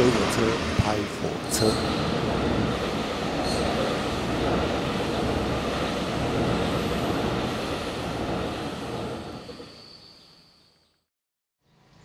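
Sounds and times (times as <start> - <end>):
train rumbling over bridge: 0.0 - 10.0.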